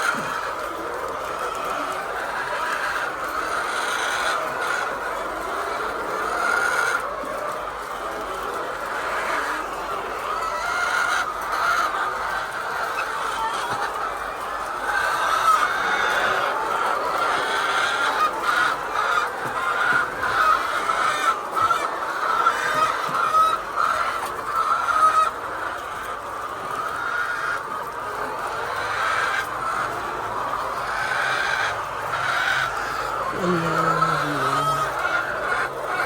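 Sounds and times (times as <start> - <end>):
hens clucking: 0.0 - 36.0.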